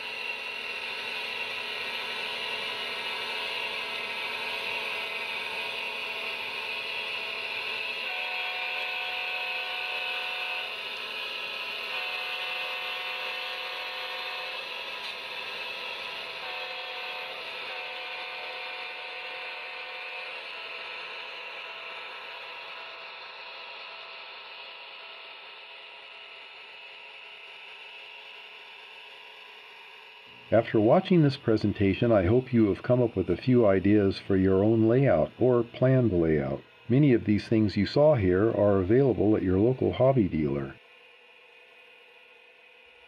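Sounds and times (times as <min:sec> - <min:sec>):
model train whirring on track: 0:00.0 - 0:43.0.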